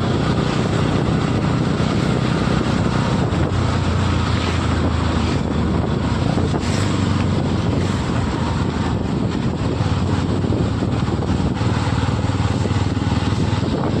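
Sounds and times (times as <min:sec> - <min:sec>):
motorcycle running: 0:00.0 - 0:14.0.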